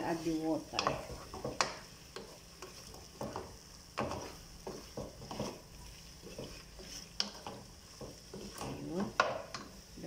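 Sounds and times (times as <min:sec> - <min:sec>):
faint sizzle: 0:00.0 - 0:10.0
wooden spoon scraping a pot: 0:00.0 - 0:10.0.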